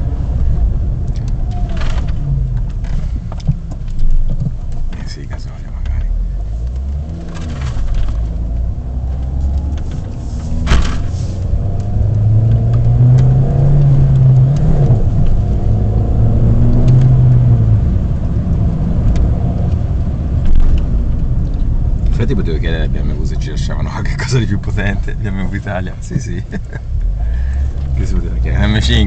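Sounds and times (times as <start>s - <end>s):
car engine accelerating: 0.0s - 29.0s
road noise: 0.0s - 29.0s.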